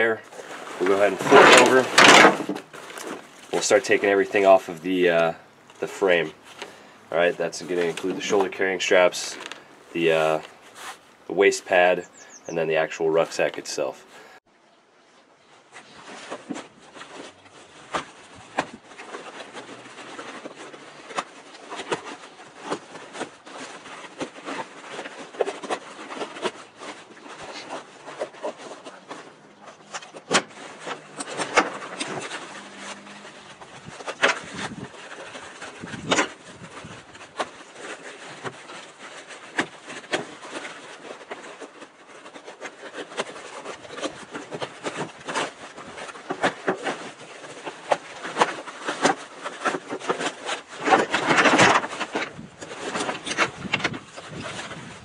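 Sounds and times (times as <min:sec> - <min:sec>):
nylon fabric rustling and scraping: 0:00.0 - 0:14.4, 0:15.4 - 0:55.0.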